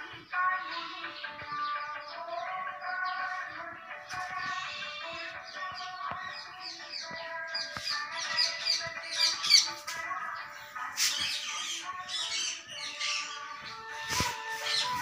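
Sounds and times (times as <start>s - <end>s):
birds chirping rapidly: 0.0s - 15.0s
music with long held notes: 0.0s - 15.0s.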